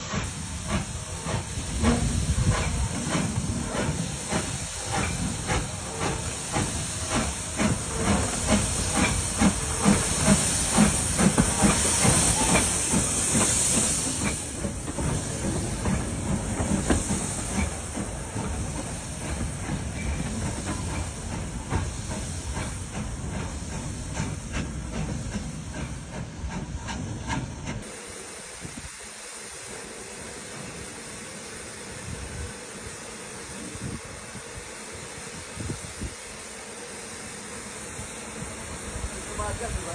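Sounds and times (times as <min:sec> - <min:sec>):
steam hiss: 0:00.0 - 0:39.9
steam locomotive exhaust chuffs: 0:00.0 - 0:39.9.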